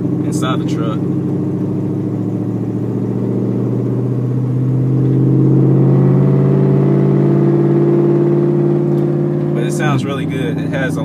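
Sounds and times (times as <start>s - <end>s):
truck exhaust while cruising: 0.0s - 11.0s.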